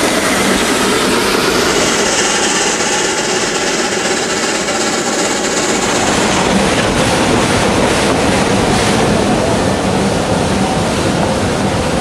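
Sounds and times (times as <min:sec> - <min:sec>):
steam train hissing rumble: 0:00.0 - 0:12.0.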